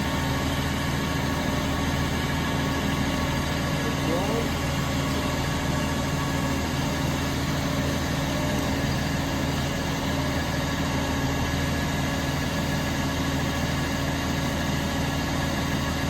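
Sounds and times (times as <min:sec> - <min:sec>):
garbage truck engine idling: 0:00.0 - 0:16.0.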